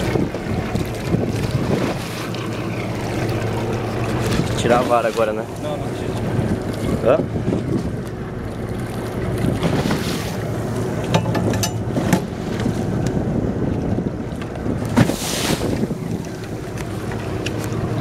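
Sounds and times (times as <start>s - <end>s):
boat engine running: 0.0s - 18.0s
water rushing: 0.0s - 18.0s
wind buffeting microphone: 0.0s - 18.0s.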